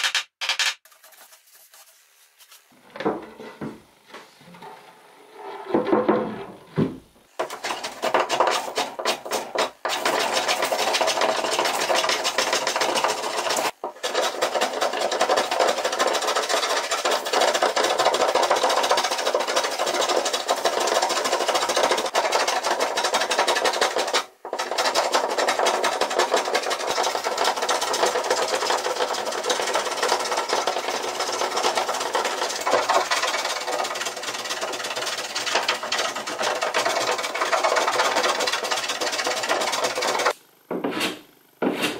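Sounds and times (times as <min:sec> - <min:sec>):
hand plane scraping wood: 0:03.2 - 0:41.9.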